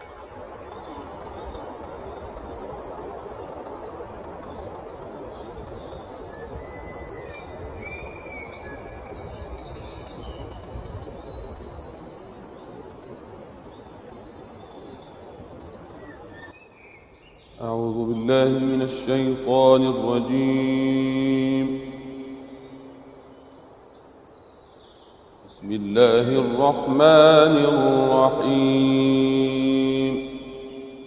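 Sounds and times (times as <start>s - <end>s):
high insect drone: 0.0s - 31.0s
bird calls: 3.6s - 31.0s.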